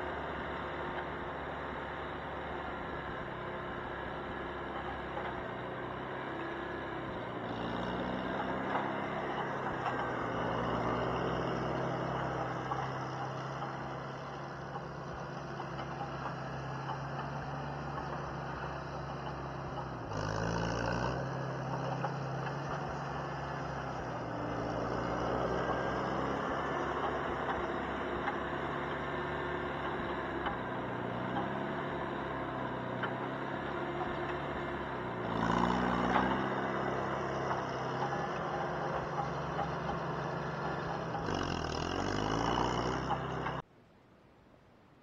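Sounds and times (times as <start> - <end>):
engine running: 0.0 - 43.7.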